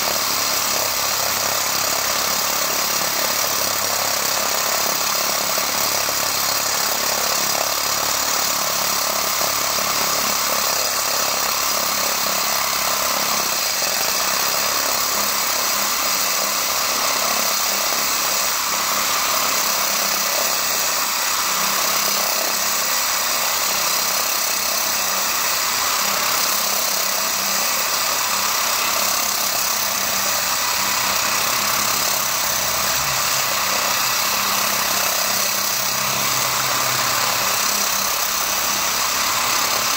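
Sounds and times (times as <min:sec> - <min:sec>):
core drill grinding concrete: 0:00.0 - 0:39.9.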